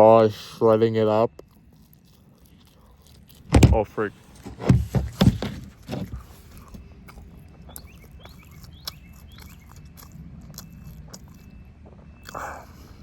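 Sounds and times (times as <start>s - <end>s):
chewing chicken close-up: 0.0s - 4.5s, 5.8s - 13.0s.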